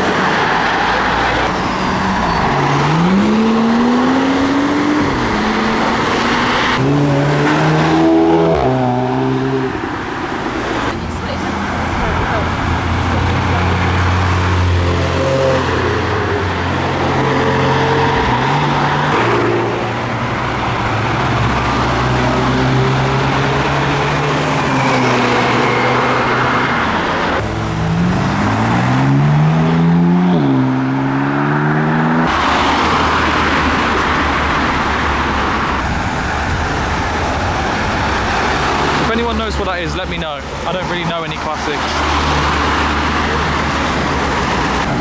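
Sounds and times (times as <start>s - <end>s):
car accelerating hard: 0.0s - 45.0s
cars driving past: 0.0s - 45.0s.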